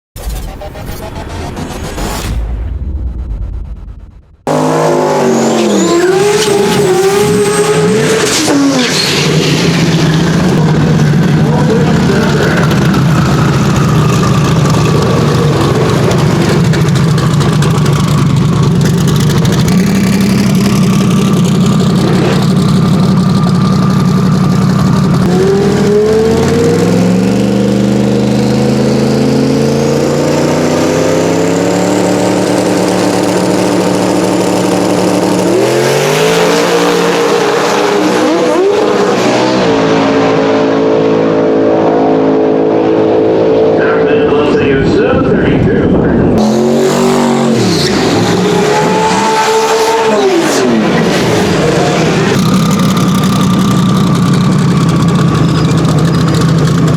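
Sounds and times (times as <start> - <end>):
drag racing car engine revving: 3.7 - 56.9.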